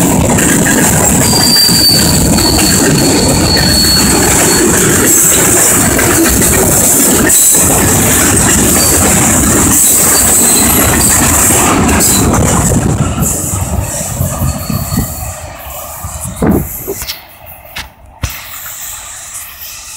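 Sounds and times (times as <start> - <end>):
train wheels rumbling on rail: 0.0 - 19.9
high steady squeal: 1.0 - 6.1, 7.2 - 12.4, 13.2 - 19.9.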